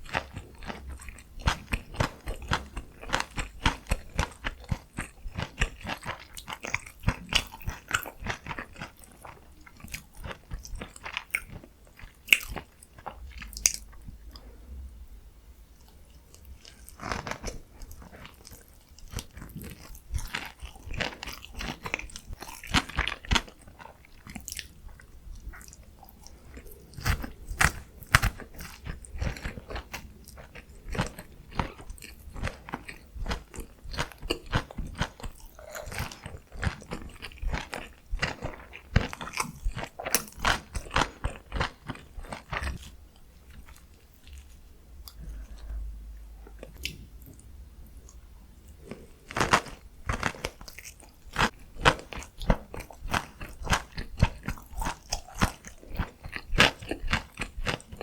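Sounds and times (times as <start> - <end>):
person chewing crunchy food: 0.0 - 14.6, 15.8 - 58.0.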